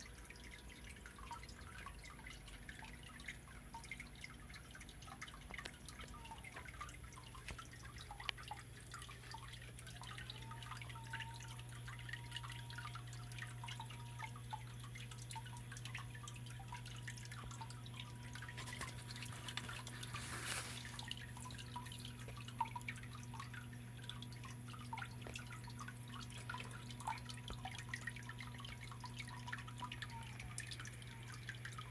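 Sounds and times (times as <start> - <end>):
steady low hum: 0.0 - 31.9
water trickling over rocks: 0.0 - 31.9.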